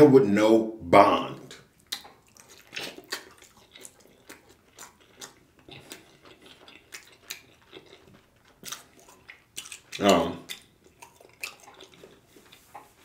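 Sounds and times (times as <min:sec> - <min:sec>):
man chewing with wet smacking: 0:01.4 - 0:13.0.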